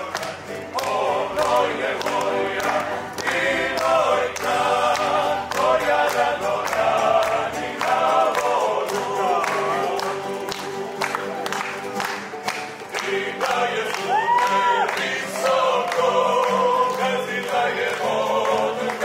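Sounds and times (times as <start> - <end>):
choir singing: 0.0 - 11.6, 12.6 - 19.0.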